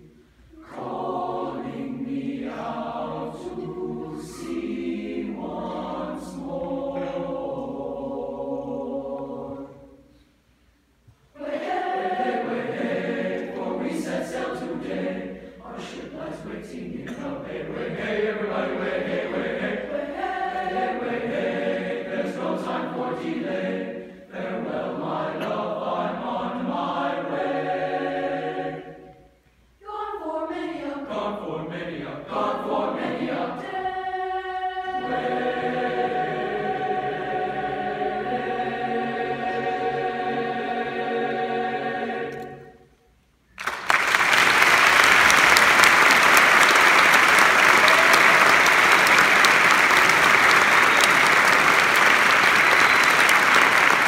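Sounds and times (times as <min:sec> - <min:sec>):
boys' choir singing: 0:00.5 - 0:10.0, 0:11.4 - 0:42.9, 0:44.6 - 0:54.0.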